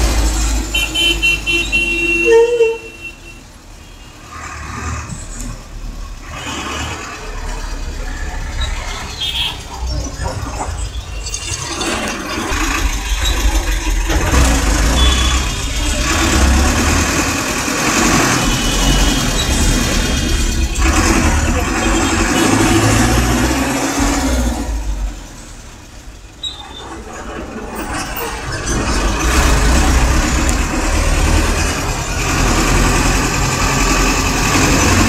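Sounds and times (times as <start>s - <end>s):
vehicle ride noise: 0.0s - 35.0s
vehicle engines running close by: 3.4s - 35.0s.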